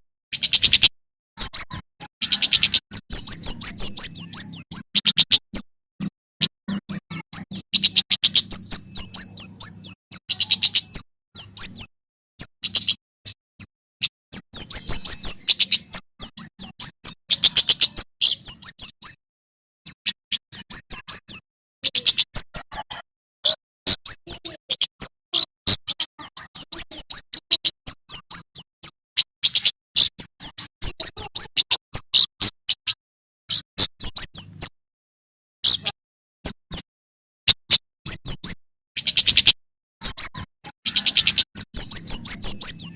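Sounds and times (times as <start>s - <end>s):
bird chirping rapidly: 0.3s - 19.2s, 19.8s - 34.8s, 35.6s - 36.9s, 37.5s - 42.9s.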